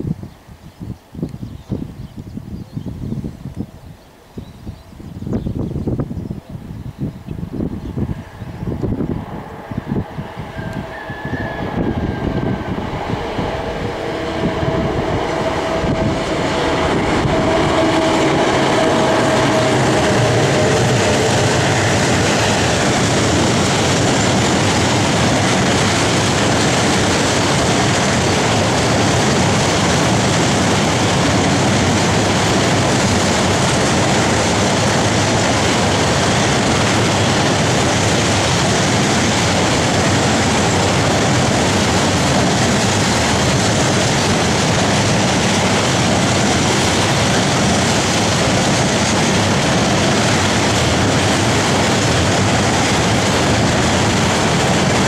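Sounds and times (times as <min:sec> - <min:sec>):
freight train wheels on rails: 0:04.7 - 0:55.0.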